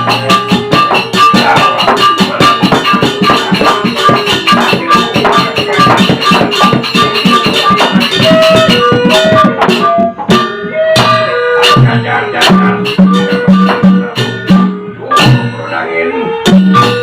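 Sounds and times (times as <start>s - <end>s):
melody of held notes: 0.0s - 17.0s
rapid percussion strokes: 0.0s - 17.0s.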